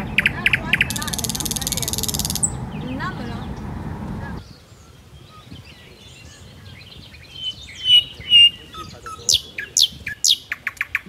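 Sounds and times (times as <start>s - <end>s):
whistled bird notes: 0.0s - 3.5s, 4.4s - 11.0s
downward-sweeping bird calls: 0.0s - 3.6s, 4.2s - 11.0s
wild birds chirping: 0.0s - 11.0s.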